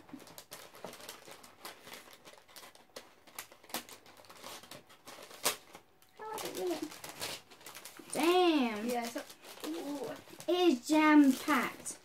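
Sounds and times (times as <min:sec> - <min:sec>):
paper packaging crinkling: 0:00.0 - 0:12.0.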